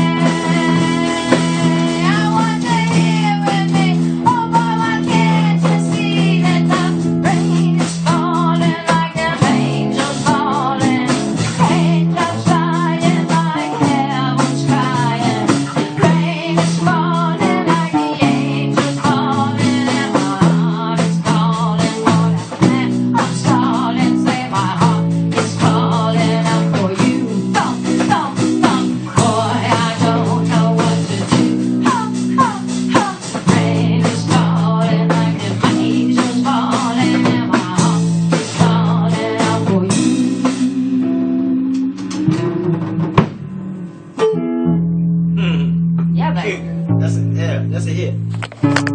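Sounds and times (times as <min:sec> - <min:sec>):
blues-rock band playing: 0:00.0 - 0:47.3, 0:47.9 - 0:48.9.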